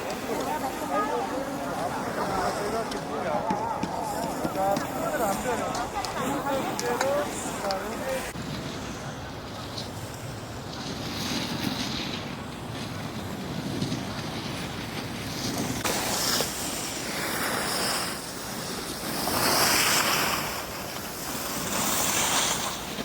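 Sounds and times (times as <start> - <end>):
skis scraping on packed snow: 0.0 - 23.0.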